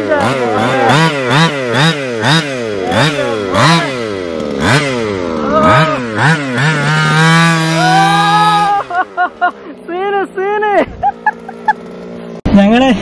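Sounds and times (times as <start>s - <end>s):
rc truck engine revving: 0.0s - 13.0s.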